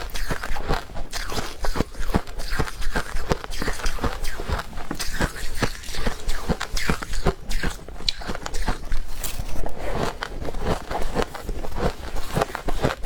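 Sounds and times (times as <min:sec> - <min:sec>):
frost being bitten and chewed: 0:00.0 - 0:13.0.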